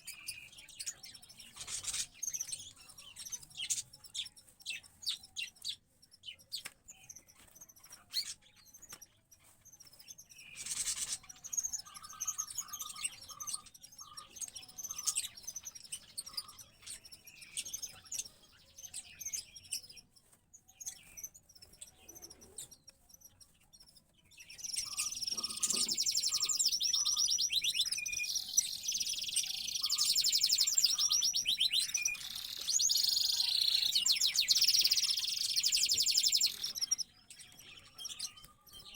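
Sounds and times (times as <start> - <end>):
rapid bird twittering: 0.0 - 8.8, 9.8 - 20.1, 20.8 - 38.9
birds chirping: 0.0 - 38.9.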